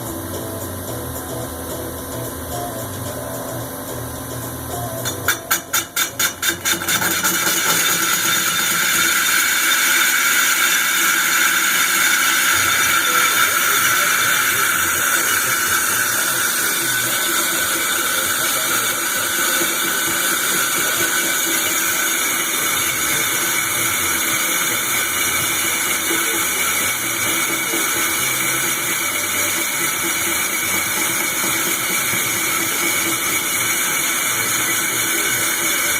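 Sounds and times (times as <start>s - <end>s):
lathe running with steady hiss: 0.0s - 35.9s.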